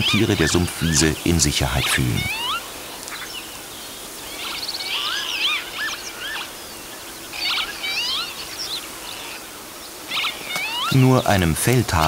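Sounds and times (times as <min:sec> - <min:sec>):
lapwings whistling: 0:00.0 - 0:11.5.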